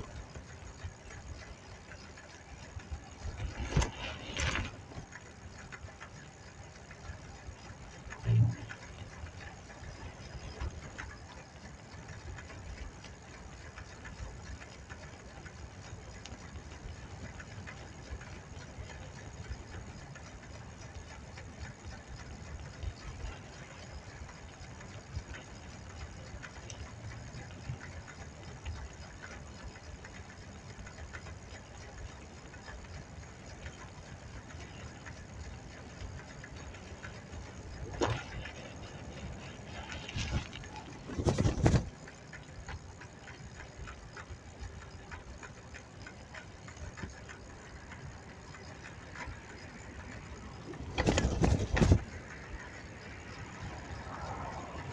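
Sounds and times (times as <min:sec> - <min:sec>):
road and wind rumble: 0:00.0 - 0:54.9
small bicycle clicks: 0:00.0 - 0:54.9.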